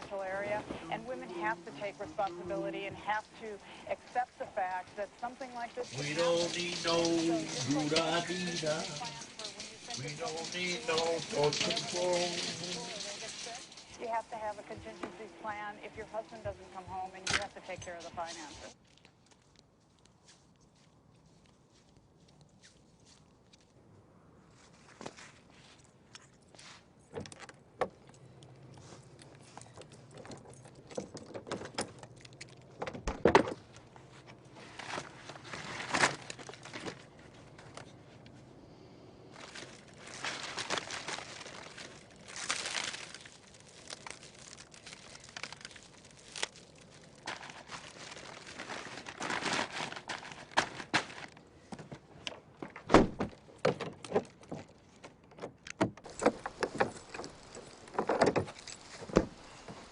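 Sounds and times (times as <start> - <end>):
crinkling and rustling handling: 0.0 - 38.6, 39.3 - 59.9.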